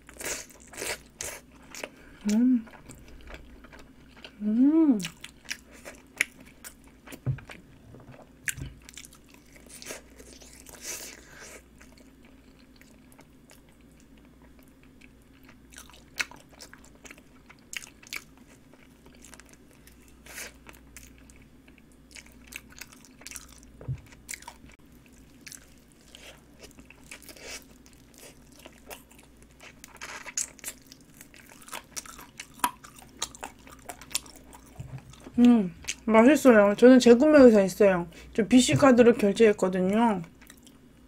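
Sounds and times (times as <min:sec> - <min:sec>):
person chewing chicken: 0:00.0 - 0:04.4, 0:05.0 - 0:36.0
faint steady hum: 0:00.0 - 0:41.0.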